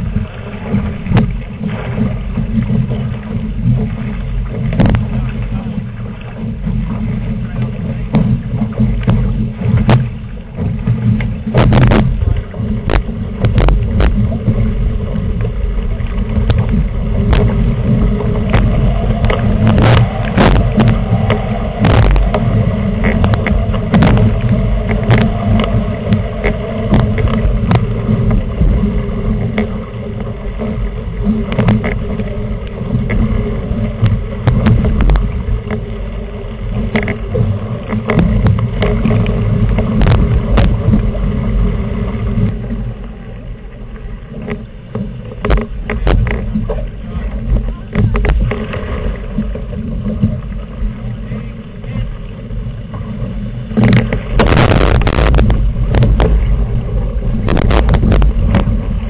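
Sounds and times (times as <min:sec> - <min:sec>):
sharp knocks and splashes: 0:00.0 - 0:43.2, 0:44.4 - 0:52.1, 0:52.9 - 0:59.0
strong wind rumbling on microphone: 0:00.0 - 0:59.0
water rushing past hull: 0:00.0 - 0:59.0.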